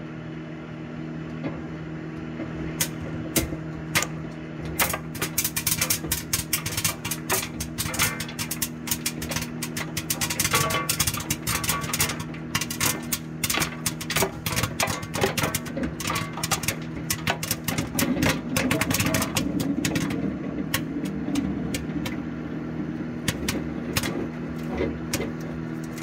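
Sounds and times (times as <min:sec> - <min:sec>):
microwave oven humming: 0:00.0 - 0:26.0
popcorn popping: 0:01.3 - 0:26.0.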